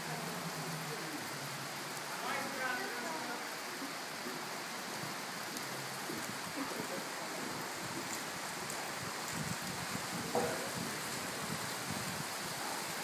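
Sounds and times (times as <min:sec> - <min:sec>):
steady rushing hiss: 0:00.0 - 0:13.0.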